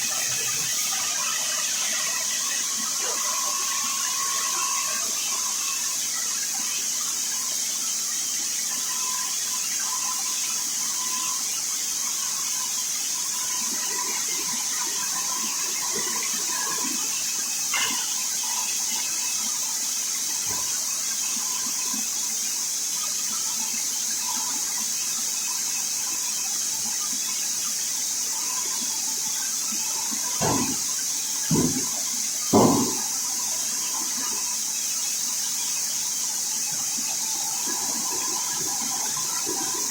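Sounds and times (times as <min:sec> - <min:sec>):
band sawmill hissing: 0:00.0 - 0:39.9.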